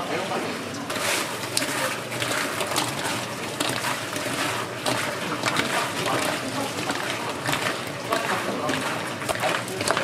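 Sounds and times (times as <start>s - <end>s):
steady frying hiss: 0.0s - 10.0s.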